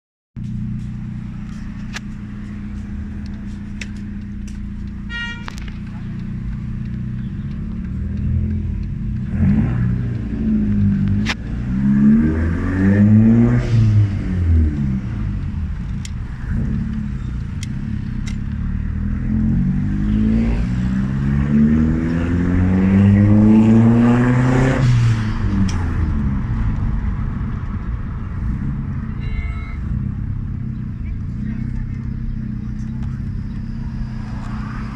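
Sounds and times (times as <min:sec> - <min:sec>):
car engine idling and revving: 0:00.4 - 0:34.9.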